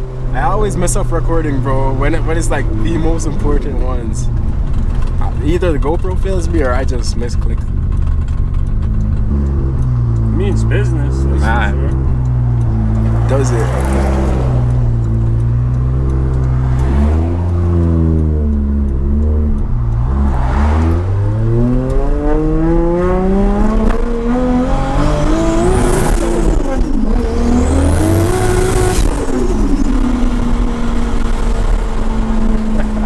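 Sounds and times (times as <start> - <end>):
turbocharged car engine accelerating: 0.0 - 33.0.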